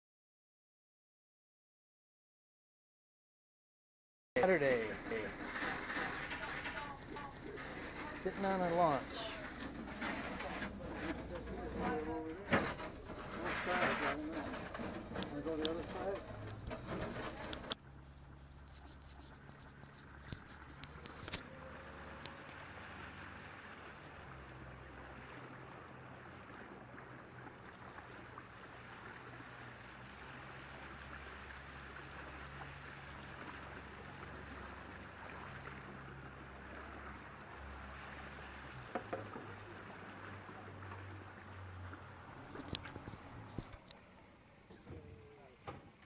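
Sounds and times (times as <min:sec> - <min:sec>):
boat motor drone: 0:04.4 - 0:45.7
water rushing along hull: 0:04.4 - 0:46.0.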